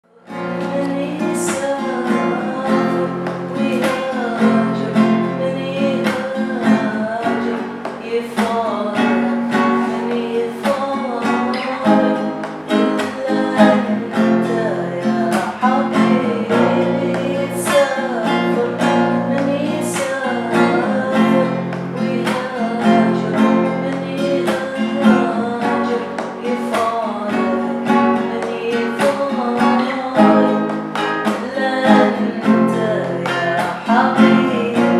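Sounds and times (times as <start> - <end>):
strummed acoustic guitar song: 0.0 - 34.9.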